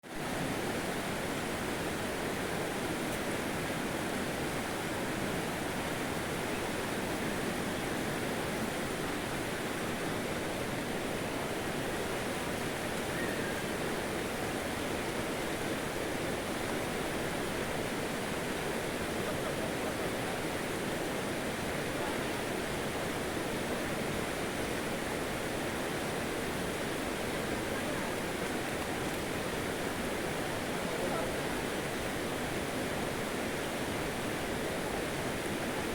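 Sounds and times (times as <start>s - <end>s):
water rushing: 0.2s - 35.9s.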